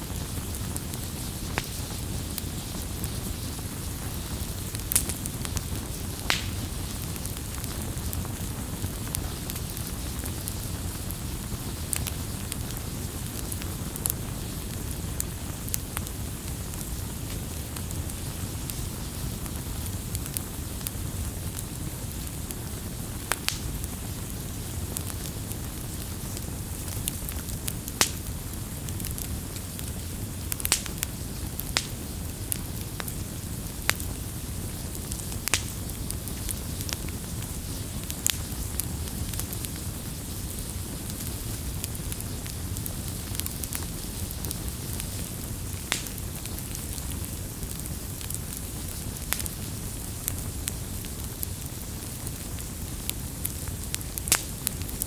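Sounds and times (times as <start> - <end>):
bonfire crackling: 0.0 - 55.0.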